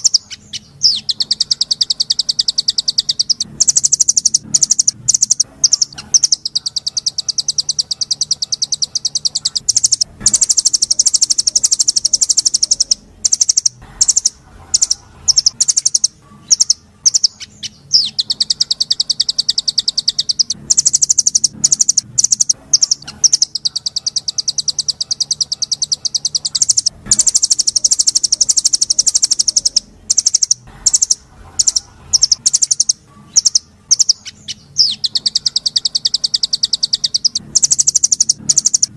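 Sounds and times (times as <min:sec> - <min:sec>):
bird chirps: 0:00.0 - 0:38.9
songbird trills: 0:00.0 - 0:38.9.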